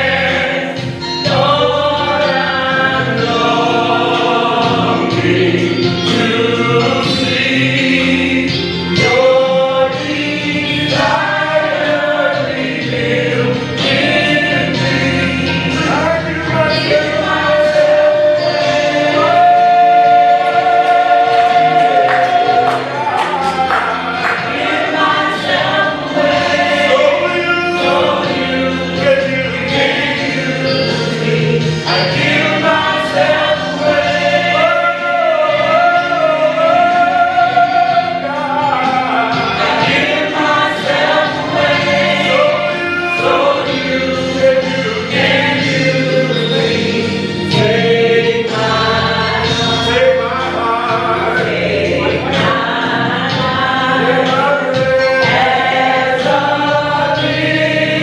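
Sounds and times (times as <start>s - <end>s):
choir singing: 0.0s - 58.0s
musical accompaniment: 0.0s - 58.0s.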